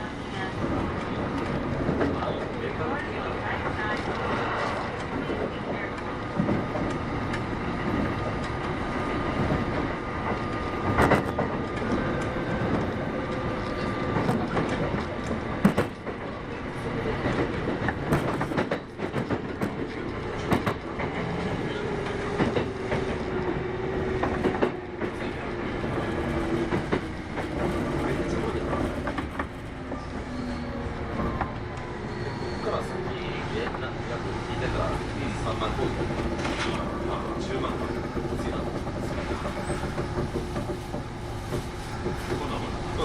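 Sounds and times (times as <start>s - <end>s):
train rolling noise: 0.0s - 43.0s.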